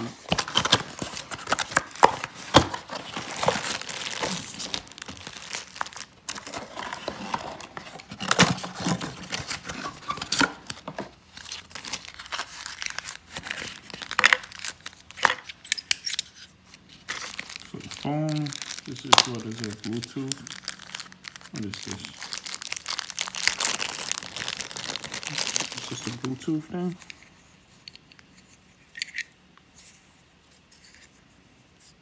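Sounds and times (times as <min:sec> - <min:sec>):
plastic packaging crinkling: 0:00.2 - 0:27.3.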